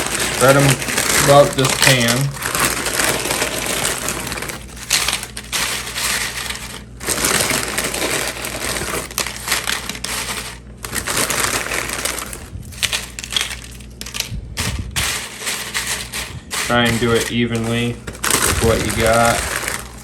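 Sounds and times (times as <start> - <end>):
chips crackling and rustling: 0.0 - 20.0.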